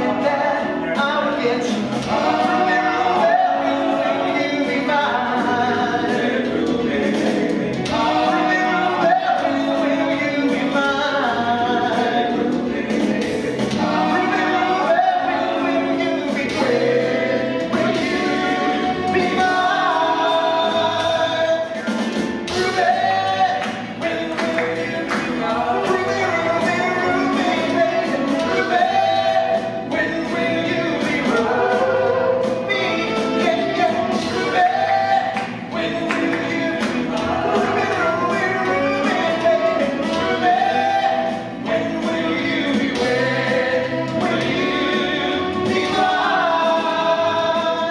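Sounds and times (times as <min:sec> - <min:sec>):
band with drums: 0:00.0 - 0:47.9
male vocal group singing in harmony: 0:00.0 - 0:47.9.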